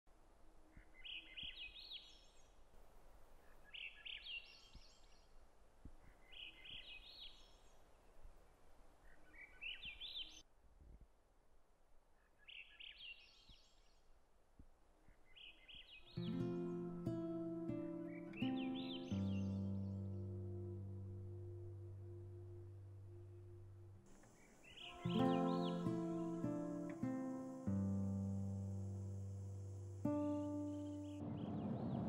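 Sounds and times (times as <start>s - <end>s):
background hiss: 0.1s - 32.0s
songbird singing: 0.7s - 2.5s, 3.4s - 5.3s, 6.0s - 8.1s, 9.0s - 10.4s, 12.2s - 14.0s, 15.0s - 32.0s.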